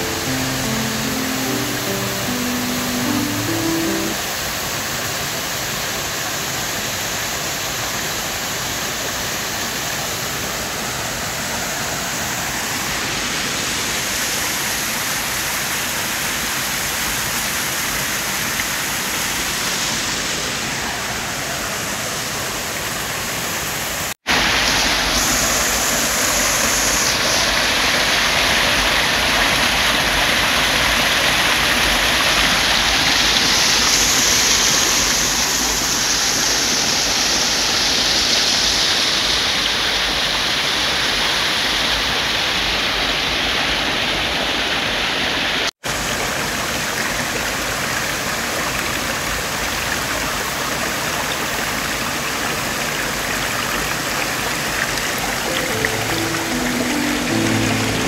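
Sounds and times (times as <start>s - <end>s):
stream rushing over boulders: 0.0s - 58.0s.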